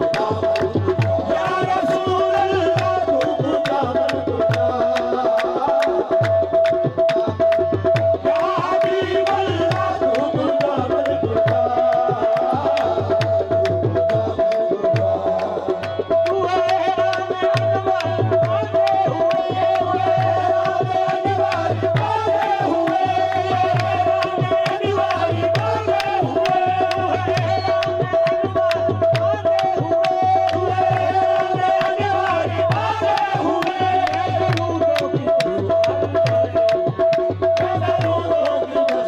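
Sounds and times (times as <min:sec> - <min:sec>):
tabla playing driving rhythm: 0:00.0 - 0:39.0
voices singing: 0:00.0 - 0:39.0.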